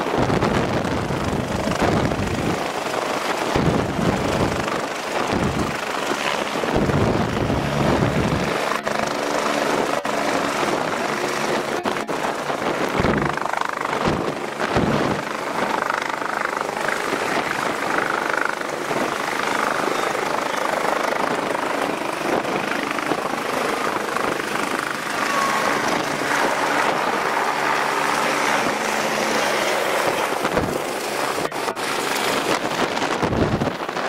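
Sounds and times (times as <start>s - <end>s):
helicopter turbine and rotor: 0.0s - 34.0s.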